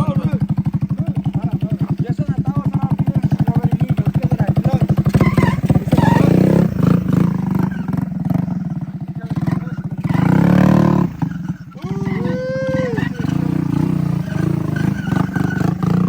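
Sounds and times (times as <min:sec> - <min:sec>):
moped engine revving: 0:00.0 - 0:16.0.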